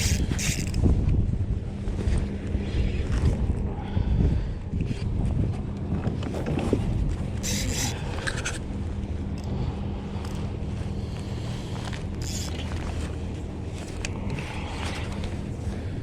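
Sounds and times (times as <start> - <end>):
water around a kayak: 0.0 - 16.0
wind rumble: 0.0 - 16.0.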